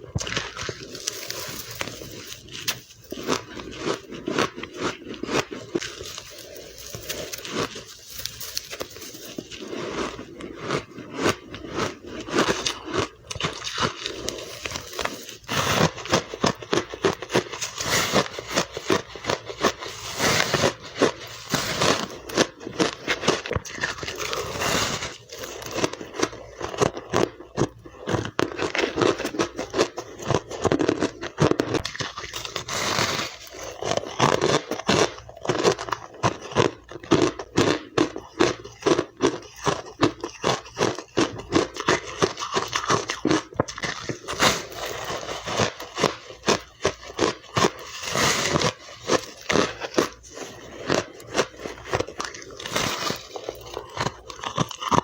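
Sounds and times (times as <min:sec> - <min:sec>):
person chewing ice: 0:00.0 - 0:55.0.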